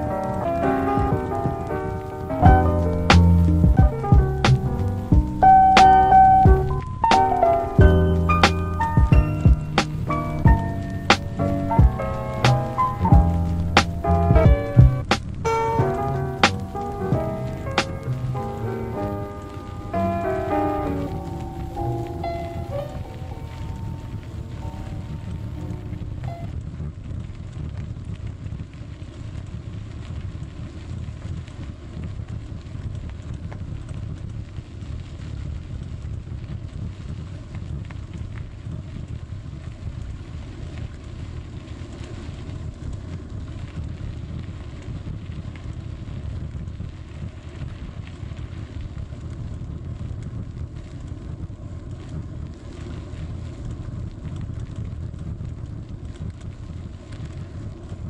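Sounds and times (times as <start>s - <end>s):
bicycle tyres on gravel: 0.0s - 58.0s
wind rumbling on microphone: 0.0s - 58.0s.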